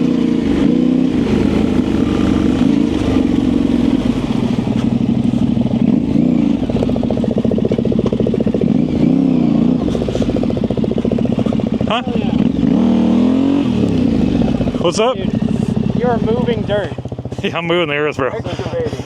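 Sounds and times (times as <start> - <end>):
motorcycle clatter: 0.0 - 19.0
motorcycle engine revving: 0.0 - 19.0.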